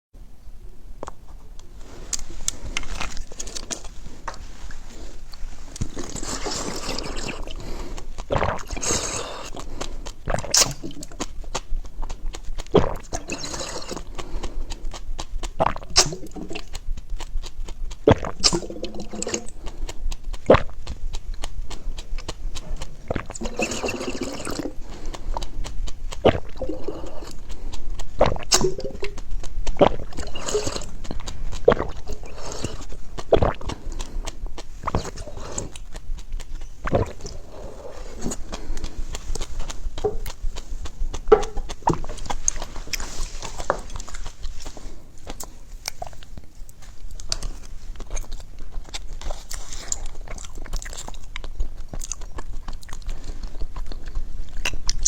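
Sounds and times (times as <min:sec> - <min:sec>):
mouth clicks and smacks: 0:01.0 - 0:55.0
wet chewing and slurping: 0:01.0 - 0:55.0.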